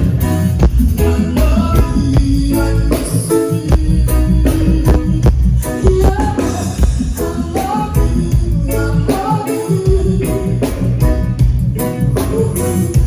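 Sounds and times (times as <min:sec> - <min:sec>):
bass line: 0:00.0 - 0:13.0
guitar: 0:00.0 - 0:13.0
person singing: 0:00.0 - 0:13.0
steady drum beat: 0:00.0 - 0:13.0.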